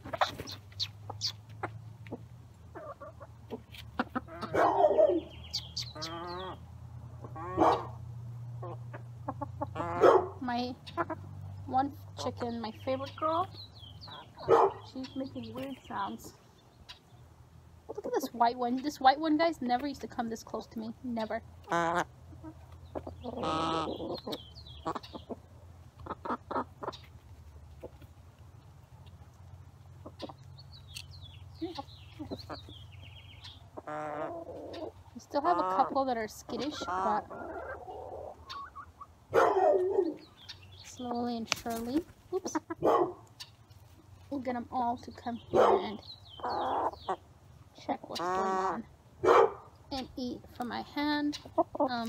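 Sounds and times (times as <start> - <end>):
hens clucking: 0.0 - 17.1, 17.8 - 52.0.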